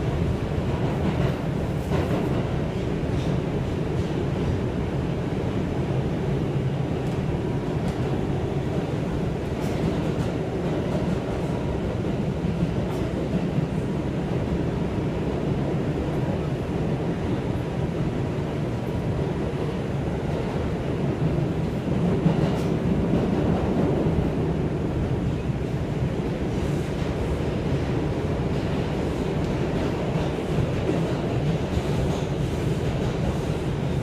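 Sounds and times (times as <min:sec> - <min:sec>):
subway car wheels and motors rumbling: 0:00.0 - 0:34.0.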